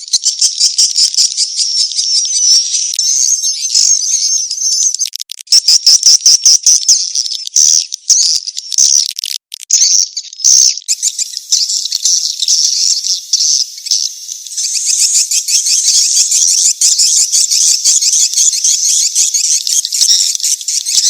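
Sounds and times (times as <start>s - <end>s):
high-pitched twittering chirps: 0.0s - 21.0s.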